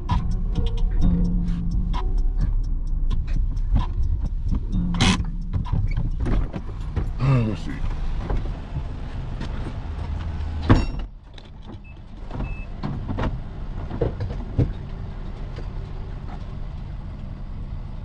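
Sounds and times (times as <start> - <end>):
car engine driving: 0.0 - 18.0.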